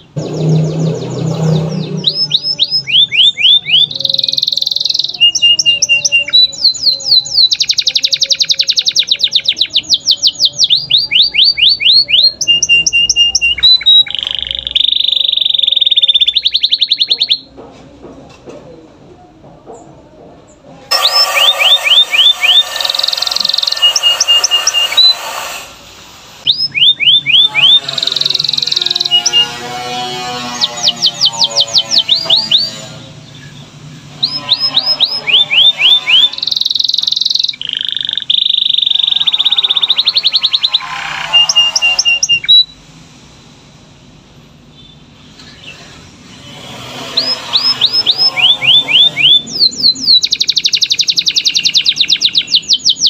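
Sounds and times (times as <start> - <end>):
canary singing: 0.0 - 17.5, 20.9 - 42.8, 44.7 - 53.0.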